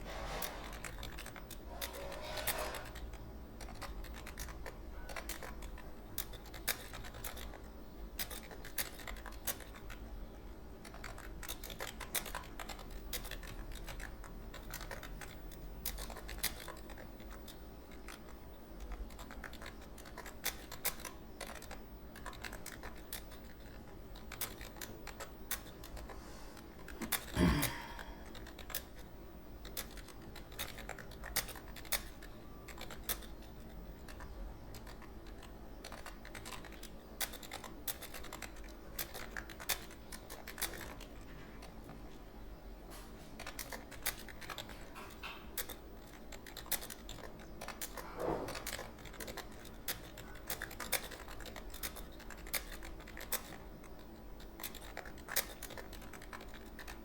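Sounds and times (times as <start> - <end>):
keyboard typing clicks: 0.3 - 10.1, 10.8 - 26.2, 26.8 - 42.0, 43.4 - 57.0.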